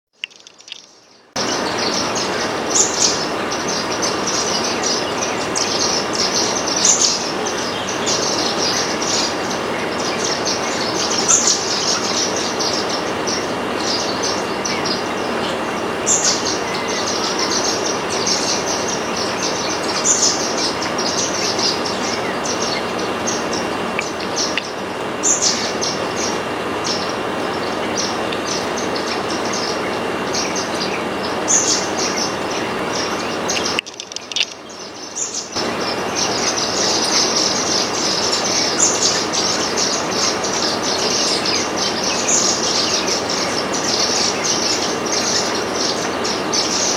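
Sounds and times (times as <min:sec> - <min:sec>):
small birds twittering: 0:00.1 - 0:46.9.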